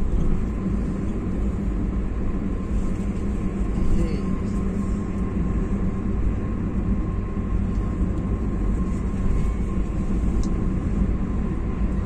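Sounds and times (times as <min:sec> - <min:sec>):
faint high hum: 0:00.0 - 0:12.0
vehicle driving on highway: 0:00.0 - 0:12.0.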